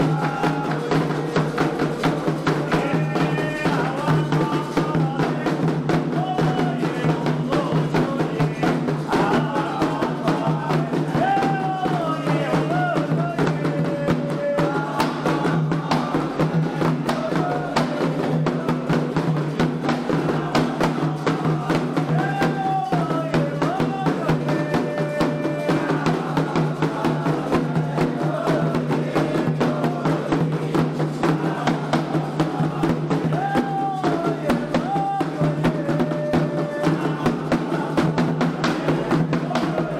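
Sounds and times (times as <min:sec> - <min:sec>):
person singing a chant: 0:00.0 - 0:19.2, 0:20.0 - 0:39.9
drums playing fast beat: 0:00.0 - 0:39.9.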